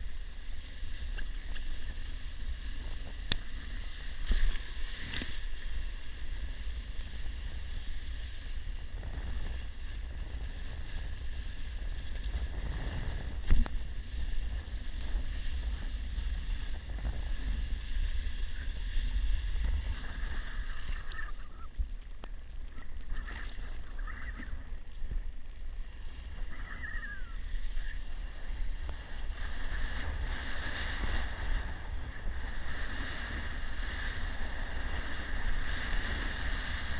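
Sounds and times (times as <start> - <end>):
big waves washing: 0.0 - 36.9
wind rumbling on microphone: 0.0 - 36.9.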